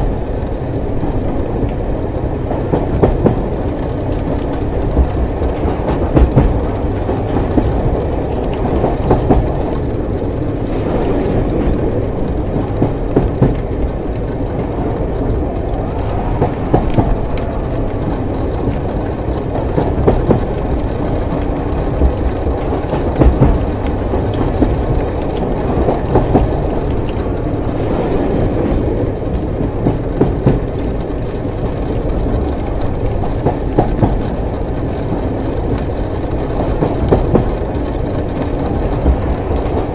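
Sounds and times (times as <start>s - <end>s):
wheel clacks over rail joints: 0.0s - 27.9s, 28.6s - 39.9s
train rumbling on rails: 0.0s - 39.9s.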